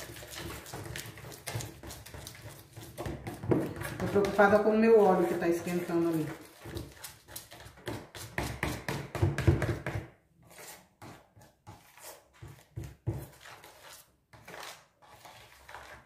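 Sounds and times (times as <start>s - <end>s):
spoon beating batter in bowl: 0.0s - 16.0s.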